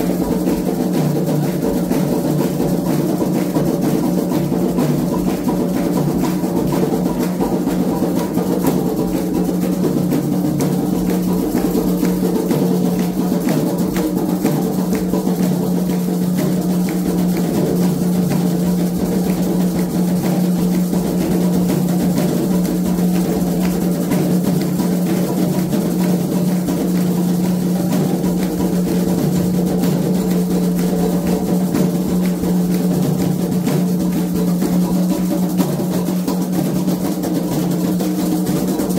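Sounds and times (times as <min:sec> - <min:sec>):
fast hand drumming: 0:00.0 - 0:38.9.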